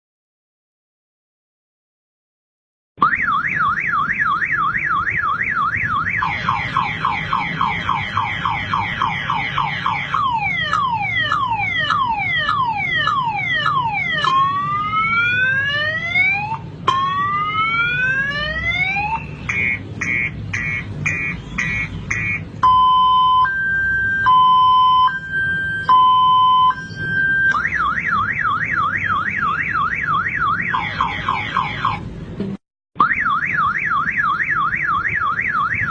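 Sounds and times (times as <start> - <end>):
car alarm siren: 3.0 - 32.1, 33.0 - 35.9.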